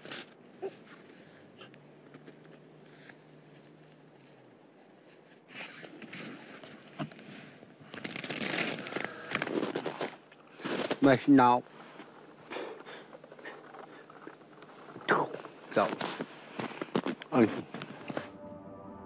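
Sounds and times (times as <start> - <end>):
crunching and scraping in snow: 2.2 - 18.4.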